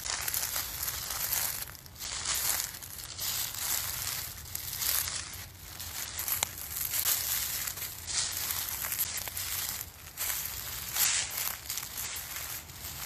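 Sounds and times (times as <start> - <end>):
footsteps crunching on snow: 0.0 - 13.0.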